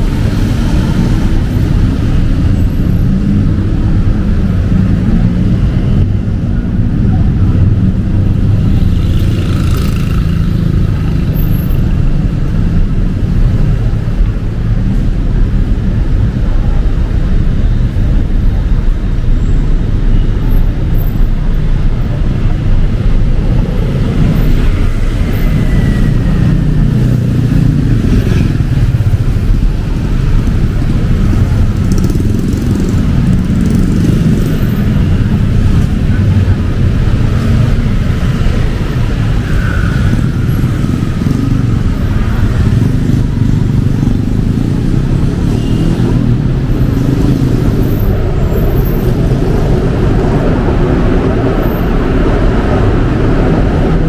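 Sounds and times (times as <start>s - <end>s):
car and motorcycle engines rumbling: 0.0s - 54.0s.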